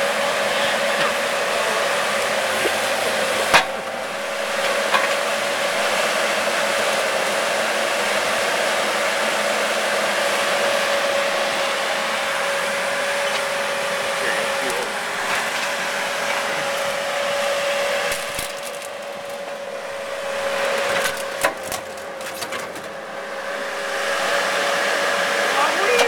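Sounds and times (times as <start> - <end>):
excavator engine and hydraulics: 0.0 - 26.0.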